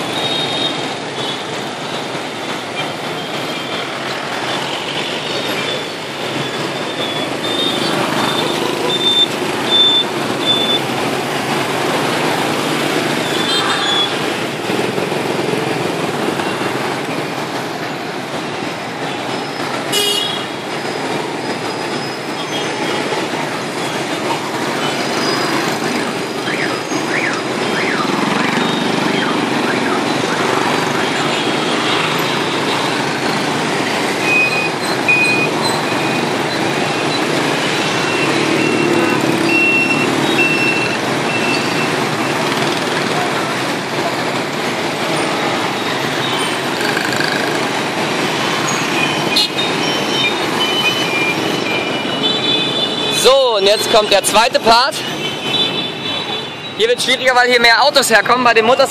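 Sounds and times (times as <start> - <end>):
motorbike and car traffic: 0.0 - 58.9.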